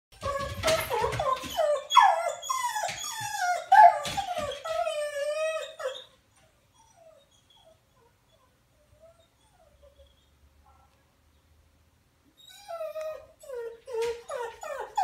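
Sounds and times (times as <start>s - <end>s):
dog whining: 0.2s - 10.4s, 12.4s - 15.0s.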